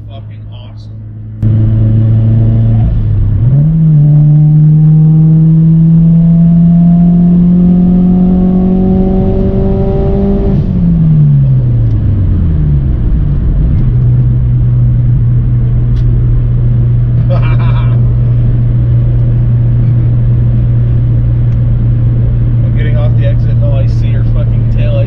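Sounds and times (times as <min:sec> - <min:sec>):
car engine accelerating hard: 0:00.8 - 0:25.0.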